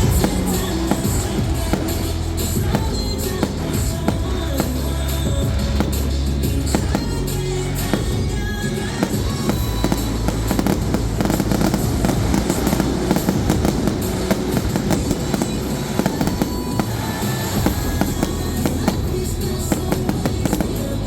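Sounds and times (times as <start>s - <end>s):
background music: 0.0s - 21.0s
fireworks bangs and crackles: 0.0s - 21.0s.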